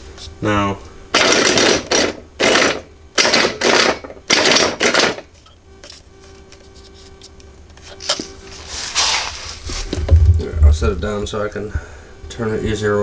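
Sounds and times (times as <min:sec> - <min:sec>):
faint steady hum: 0:00.0 - 0:13.0
wiper motor whirring in bursts: 0:00.0 - 0:13.0.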